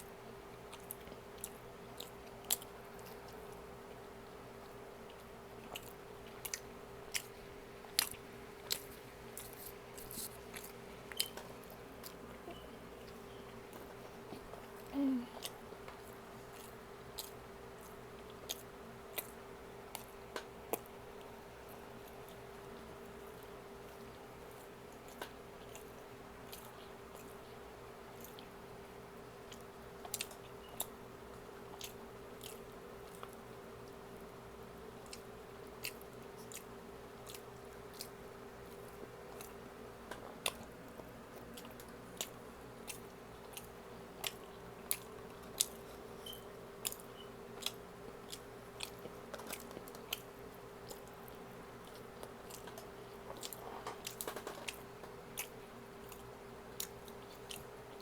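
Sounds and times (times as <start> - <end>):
faint steady hum: 0.0 - 58.0
chewing with wet mouth clicks: 0.6 - 4.0, 4.6 - 28.6, 29.2 - 58.0.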